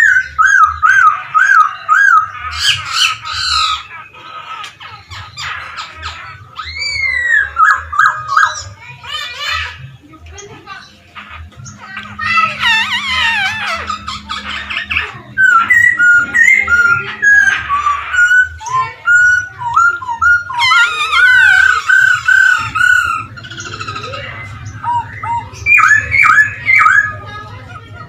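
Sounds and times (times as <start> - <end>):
laughingthrush singing: 0.0 - 28.0.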